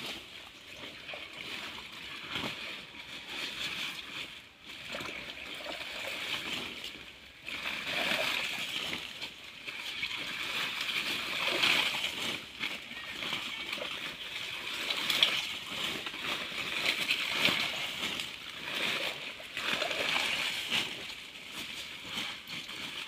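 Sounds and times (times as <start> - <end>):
hands splashing in muddy water: 0.2 - 23.0.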